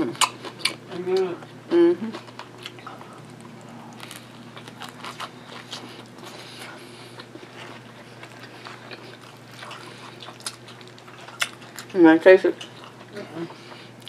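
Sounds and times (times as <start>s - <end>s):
chewing a soft sandwich: 0.0s - 12.0s, 12.6s - 14.0s.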